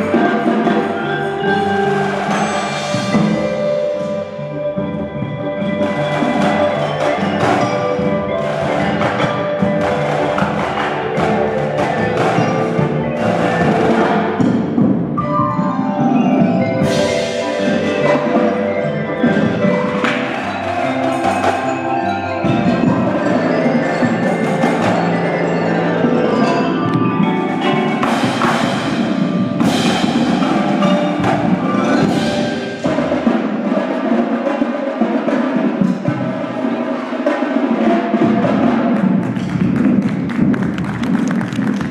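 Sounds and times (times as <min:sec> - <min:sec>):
mallet keyboards and chimes: 0:00.0 - 0:37.2
drum and percussion hits: 0:00.0 - 0:41.9.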